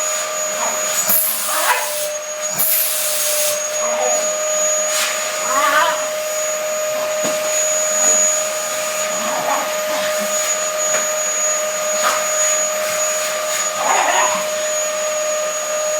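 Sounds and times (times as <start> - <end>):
vacuum cleaner whining: 0.0 - 15.9.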